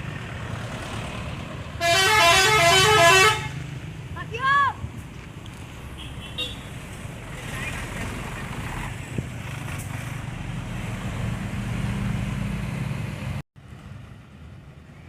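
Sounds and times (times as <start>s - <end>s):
bus engine rumble: 0.0s - 15.0s
faint road traffic: 0.0s - 15.0s.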